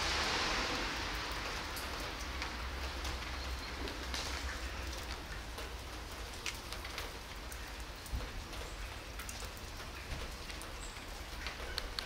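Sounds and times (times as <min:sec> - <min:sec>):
rain on wet asphalt: 0:00.0 - 0:12.0.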